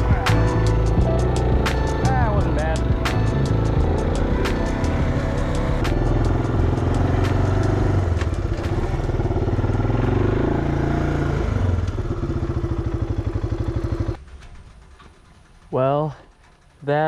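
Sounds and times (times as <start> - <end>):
atv engine droning: 0.0 - 14.2.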